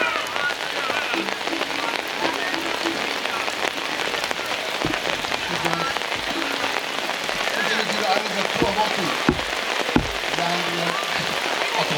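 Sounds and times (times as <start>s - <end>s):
heavy rain patter: 0.0s - 11.9s.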